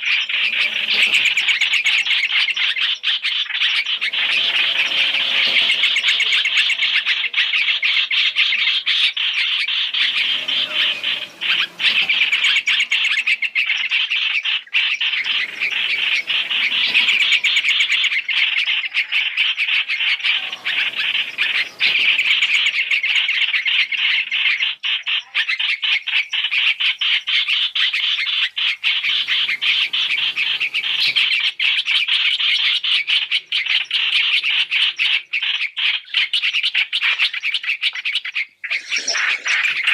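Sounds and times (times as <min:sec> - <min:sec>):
birds chirping chatter: 0:00.0 - 0:39.9.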